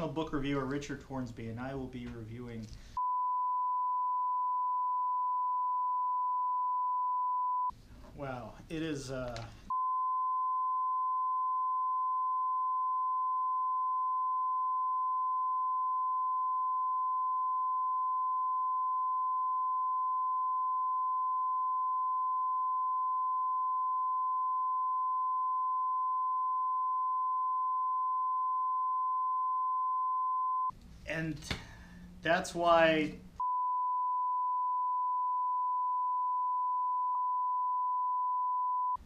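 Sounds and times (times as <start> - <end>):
censor bleep: 3.0 - 7.7, 9.7 - 30.7, 33.4 - 39.0.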